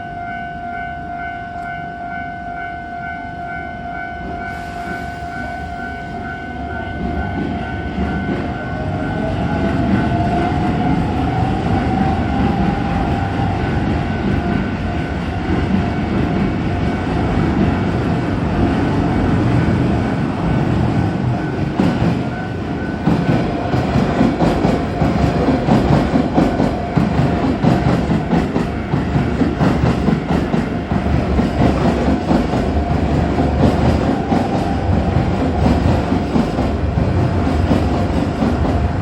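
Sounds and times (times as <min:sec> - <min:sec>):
crossing warning bell ringing: 0:00.0 - 0:39.0
train wheels clacking on rails: 0:04.3 - 0:39.0.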